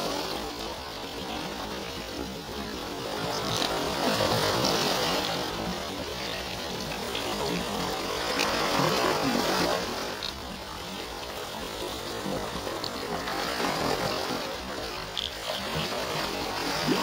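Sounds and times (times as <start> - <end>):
waves washing over rocks: 0.0 - 17.0.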